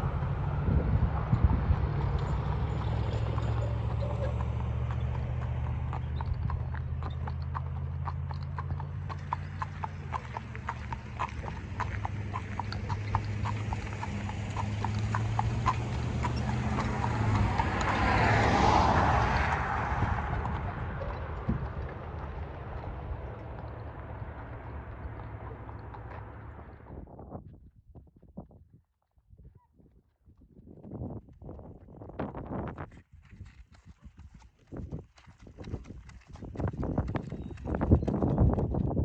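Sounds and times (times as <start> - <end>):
horse hooves clip-clopping: 0.0 - 26.9, 31.5 - 39.0.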